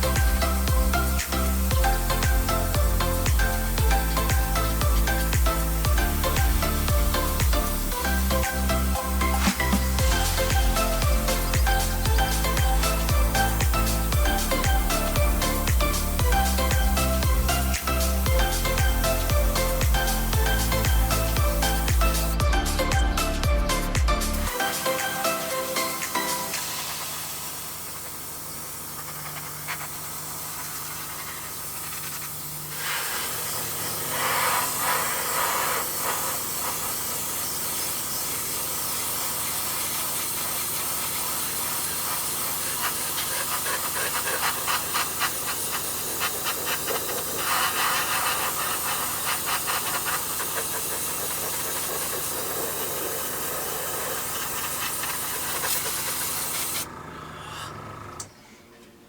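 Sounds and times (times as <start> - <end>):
airbrush hissing: 0.0 - 57.7.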